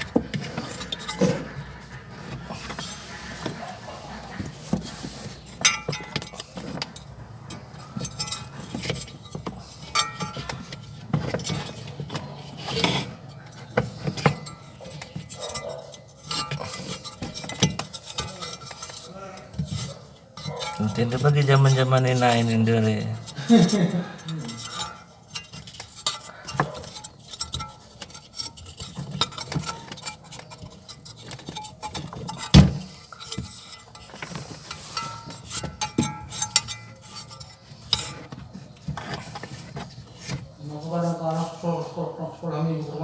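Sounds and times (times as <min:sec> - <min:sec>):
metal tools clinking and knocking: 0:00.0 - 0:03.1, 0:04.7 - 0:40.4.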